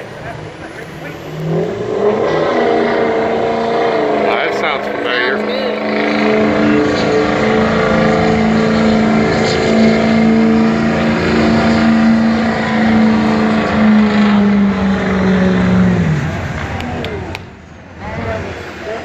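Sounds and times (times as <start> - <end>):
pickup engine under heavy load: 0.0 - 19.0.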